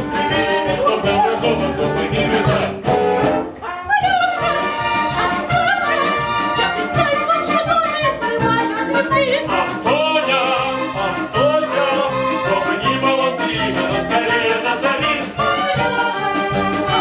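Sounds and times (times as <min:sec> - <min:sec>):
operetta music: 0:00.0 - 0:17.0.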